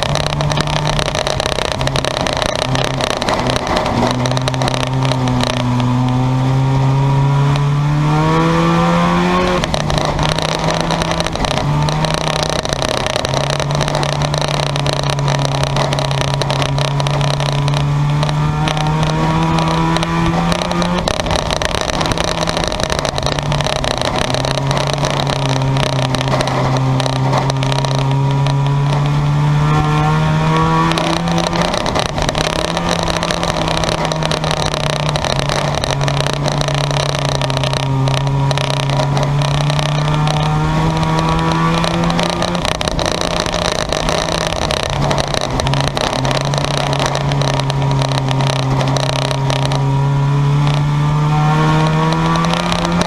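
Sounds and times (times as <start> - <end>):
race car engines: 0.0 - 53.0.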